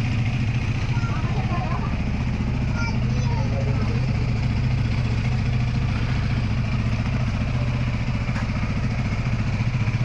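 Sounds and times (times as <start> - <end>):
scooter engine idling: 0.0 - 10.0.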